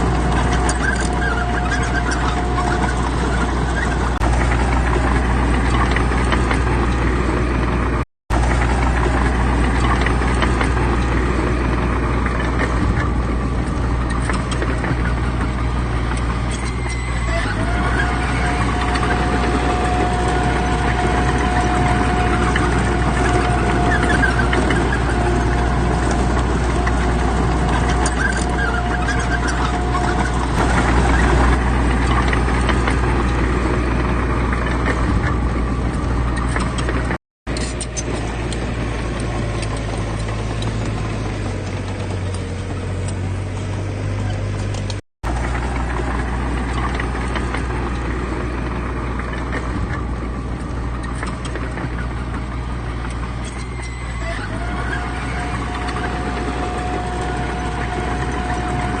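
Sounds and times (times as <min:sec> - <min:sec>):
thin whine: 0:00.0 - 0:42.8, 0:45.3 - 0:59.0
heavy machine diesel engine: 0:00.0 - 0:59.0.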